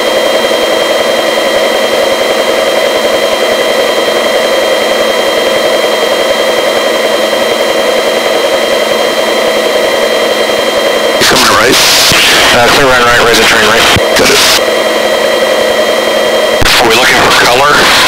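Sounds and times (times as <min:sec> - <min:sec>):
helicopter cabin noise: 0:00.0 - 0:18.0.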